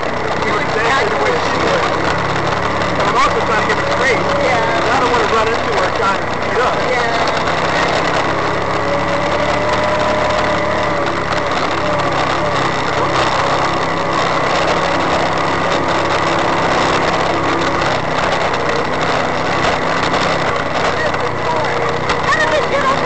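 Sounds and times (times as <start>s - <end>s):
steady rushing noise: 0.0s - 23.0s
utility vehicle engine running: 0.0s - 23.0s.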